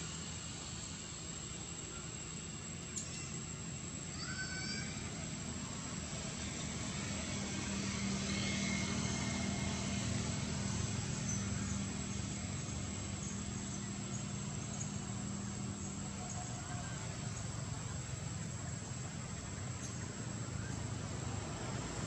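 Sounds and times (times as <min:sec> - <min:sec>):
high-pitched whine: 0:00.0 - 0:21.5
vehicle engine drone: 0:00.0 - 0:22.0.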